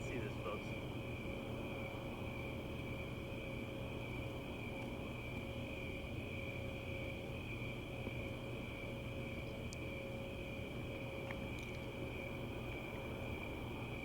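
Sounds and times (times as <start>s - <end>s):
crickets trilling: 0.0s - 14.0s
low background rumble: 0.0s - 14.0s.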